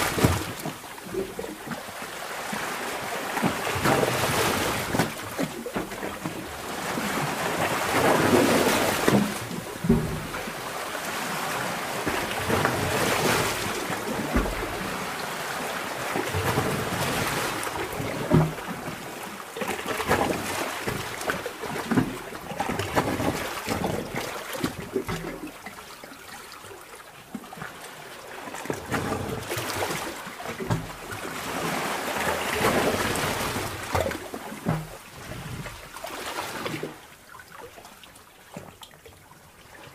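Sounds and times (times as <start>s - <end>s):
sea water surging: 0.0s - 39.9s
water gurgles and knocks: 0.0s - 39.9s.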